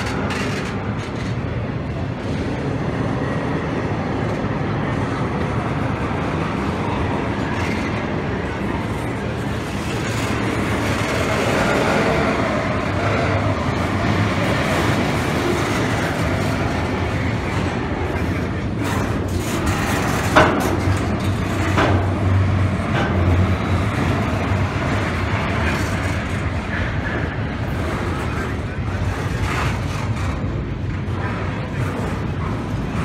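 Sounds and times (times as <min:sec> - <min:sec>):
sharp train clacks: 0:00.0 - 0:03.5, 0:04.1 - 0:33.0
train wheels rumbling on rail: 0:00.0 - 0:33.0.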